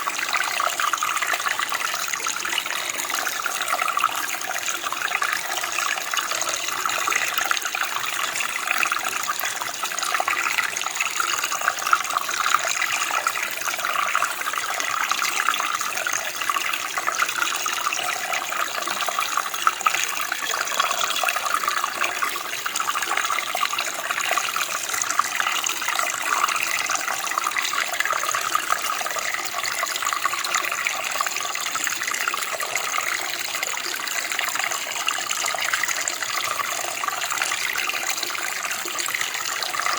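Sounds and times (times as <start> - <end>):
stream flowing and babbling: 0.0 - 39.9.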